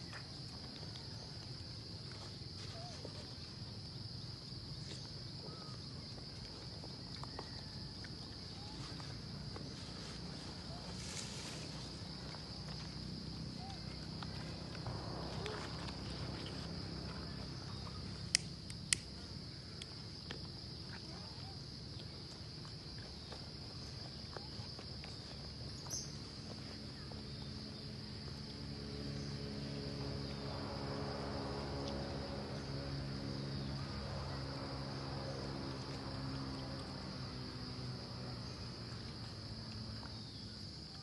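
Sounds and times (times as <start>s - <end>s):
insects droning: 0.0s - 41.0s
low steady hum: 0.0s - 41.0s.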